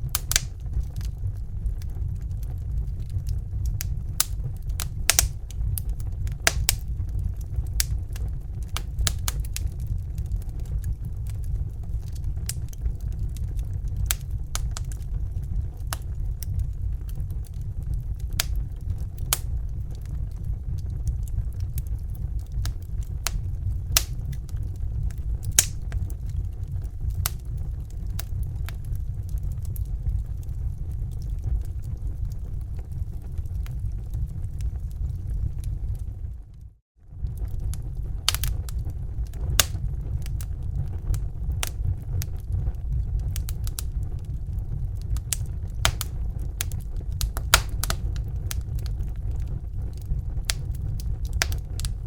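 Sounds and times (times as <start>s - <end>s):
fire crackling and popping: 0.0s - 52.0s
low rumble: 0.0s - 52.0s.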